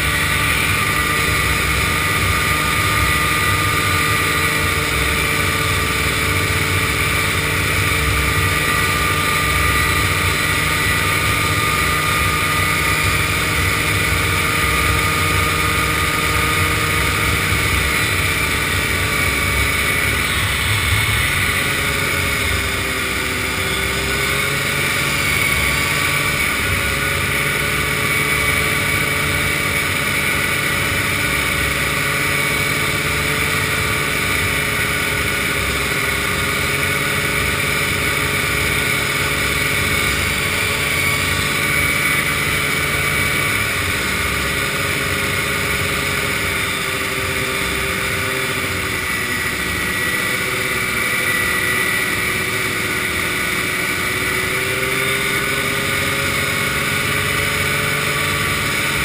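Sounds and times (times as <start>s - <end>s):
constant rushing noise: 0.0s - 59.0s
snowmobile engine running: 0.0s - 59.0s.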